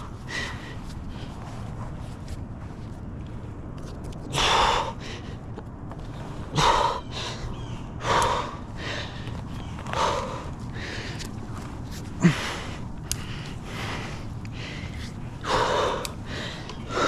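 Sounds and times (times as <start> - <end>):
person breathing hard: 0.0 - 1.8, 4.3 - 17.0.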